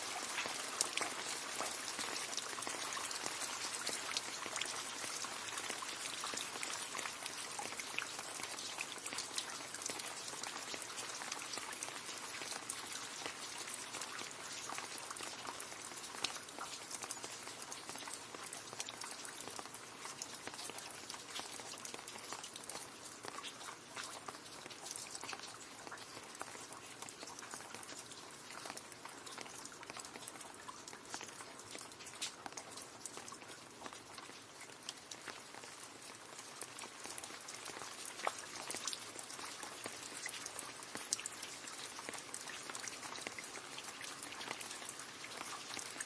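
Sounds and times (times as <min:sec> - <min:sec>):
rain splashing into puddle: 0:00.0 - 0:46.0.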